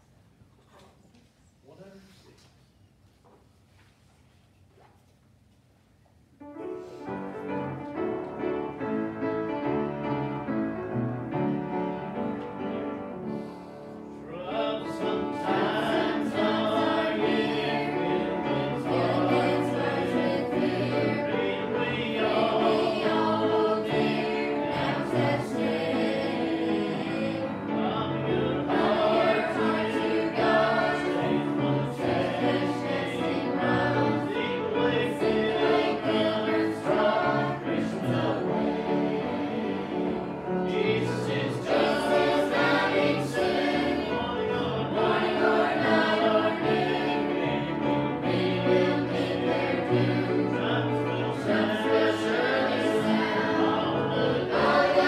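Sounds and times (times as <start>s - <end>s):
choir singing gospel: 7.0s - 55.0s.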